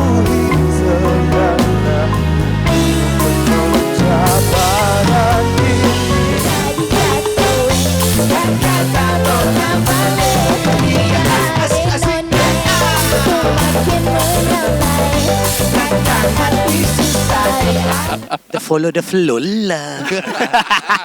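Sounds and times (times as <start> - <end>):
band playing rock music: 0.0 - 18.4.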